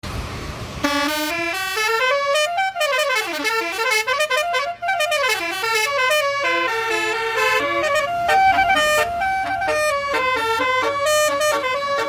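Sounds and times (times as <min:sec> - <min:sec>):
musical bus air horn melody: 0:00.8 - 0:12.0.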